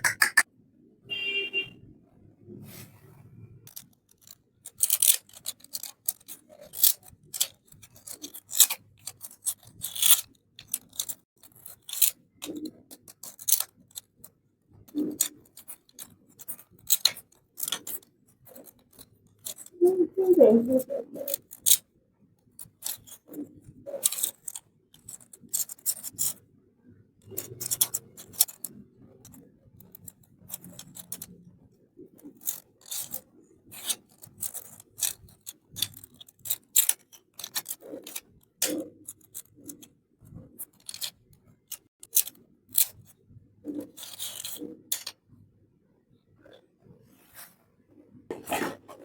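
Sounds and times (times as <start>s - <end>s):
hands handling plastic toys: 3.7s - 26.5s, 27.2s - 45.3s, 48.3s - 49.0s.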